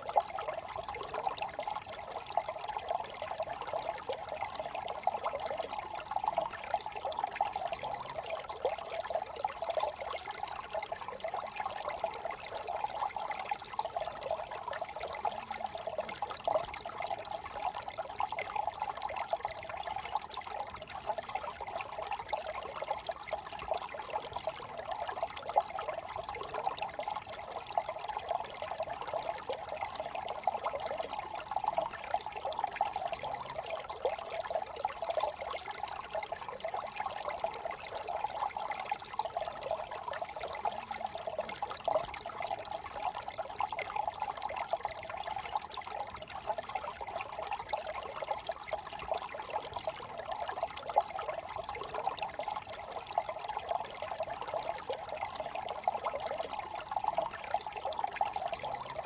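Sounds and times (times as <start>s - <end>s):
brook babbling over stones: 0.0s - 59.0s.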